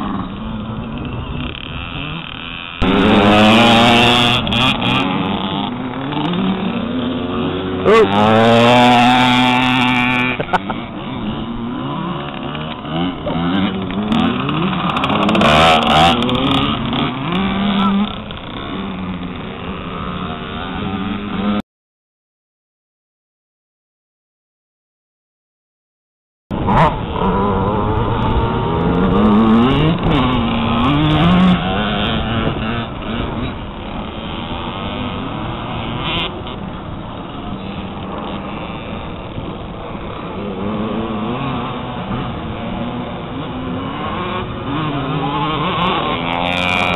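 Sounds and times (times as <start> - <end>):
motocross bike engines revving: 0.0 - 21.6, 26.5 - 46.9.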